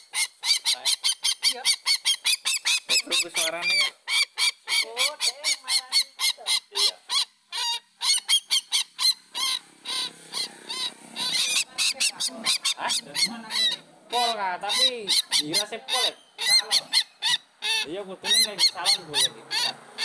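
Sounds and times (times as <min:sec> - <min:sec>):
bird nasal honking calls: 0:00.0 - 0:20.0.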